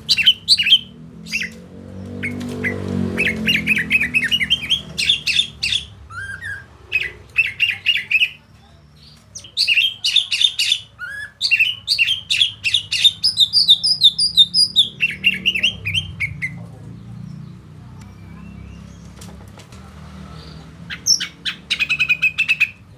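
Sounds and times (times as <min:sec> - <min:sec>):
songbird singing: 0:00.0 - 0:22.9.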